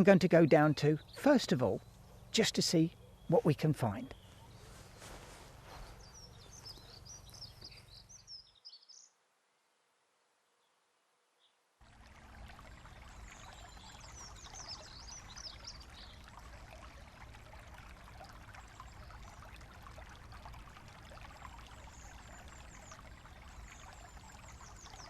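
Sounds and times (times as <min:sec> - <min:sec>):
brook trickling: 0:00.0 - 0:09.0, 0:11.8 - 0:25.0
small birds chirping: 0:00.0 - 0:09.2, 0:12.7 - 0:20.0, 0:21.1 - 0:25.0.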